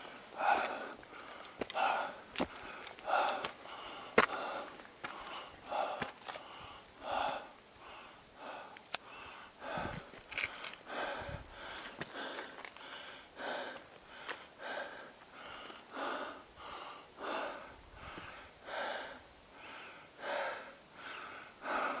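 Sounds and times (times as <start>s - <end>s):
person breathing hard: 0.0s - 22.0s.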